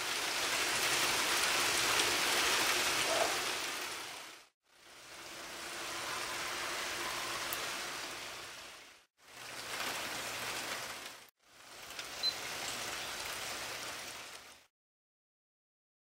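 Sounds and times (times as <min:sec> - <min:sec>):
rain hissing on street: 0:00.0 - 0:14.7.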